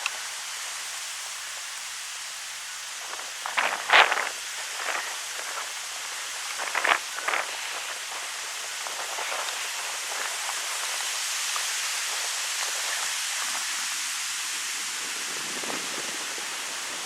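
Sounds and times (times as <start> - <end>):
wind rustling leaves: 0.0 - 17.0.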